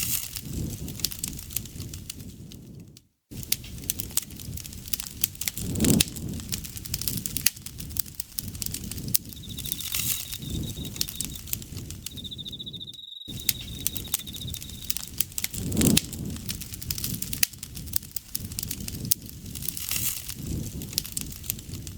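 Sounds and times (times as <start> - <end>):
campfire crackling and popping: 0.0 - 2.7, 3.3 - 21.9
flames rushing: 0.1 - 2.7, 3.3 - 21.9.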